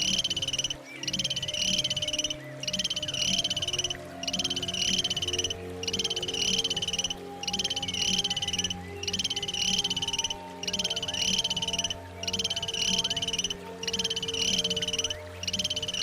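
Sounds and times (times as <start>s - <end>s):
buzzy pulsed animal trill: 0.0s - 16.0s
faint steady low tones: 0.0s - 16.0s.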